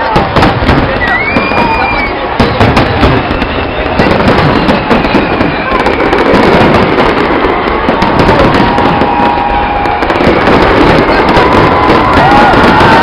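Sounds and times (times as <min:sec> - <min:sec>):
fireworks bangs and crackling: 0:00.0 - 0:13.0
fireworks whistling: 0:00.0 - 0:13.0.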